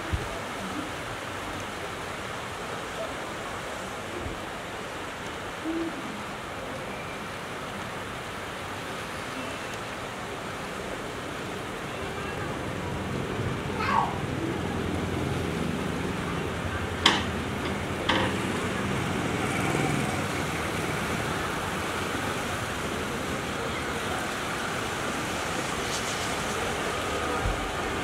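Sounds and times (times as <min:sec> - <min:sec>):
wind: 0:00.0 - 0:28.0
distant city traffic: 0:04.6 - 0:28.0.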